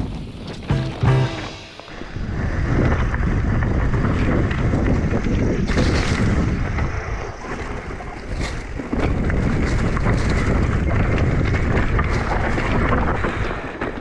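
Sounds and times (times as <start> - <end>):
wind buffeting microphone: 0.0 - 0.9, 1.5 - 14.0.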